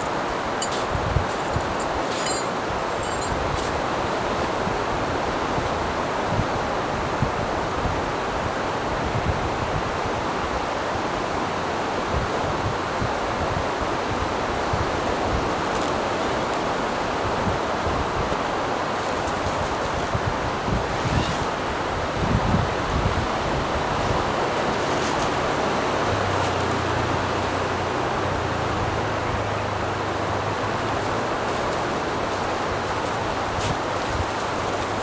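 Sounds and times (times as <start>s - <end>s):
wind buffeting microphone: 0.0s - 10.1s, 12.1s - 35.0s
strong wind: 0.0s - 35.0s
surf on a beach: 3.5s - 35.0s.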